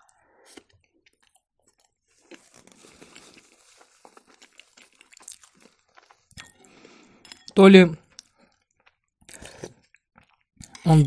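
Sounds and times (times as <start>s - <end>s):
chewing with moist crackles: 0.1s - 10.9s.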